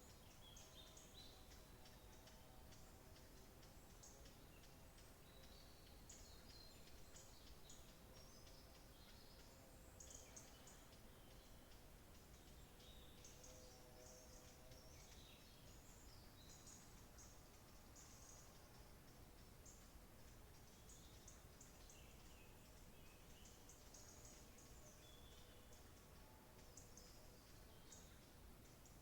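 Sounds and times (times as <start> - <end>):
low background hiss: 0.0 - 29.0.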